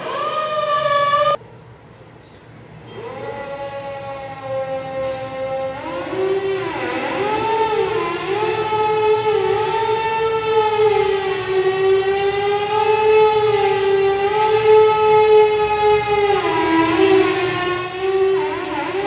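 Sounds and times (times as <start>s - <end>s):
air-raid siren: 0.0s - 1.4s, 2.8s - 19.0s.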